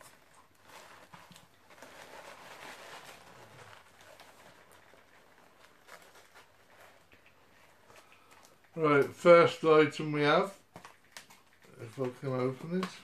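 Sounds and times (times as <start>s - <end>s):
packing wrap rustling and crinkling: 0.0s - 13.0s.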